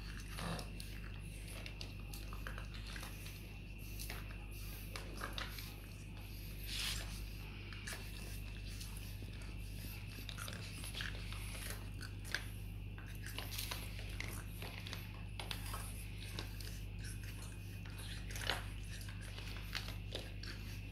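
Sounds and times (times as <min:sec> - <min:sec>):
puppy nibbling plastic basket: 0:00.0 - 0:20.9
steady low hum: 0:00.0 - 0:20.9.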